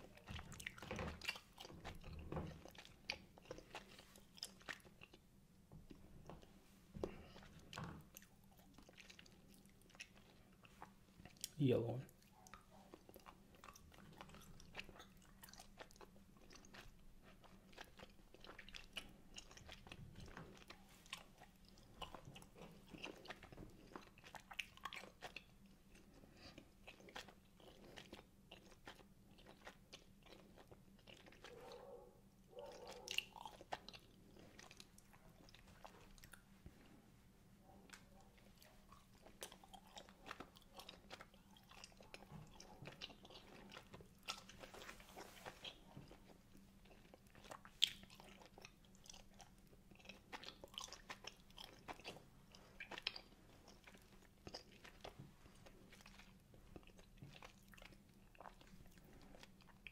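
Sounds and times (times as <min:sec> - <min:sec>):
chewing gummy candy: 0:00.0 - 0:59.9.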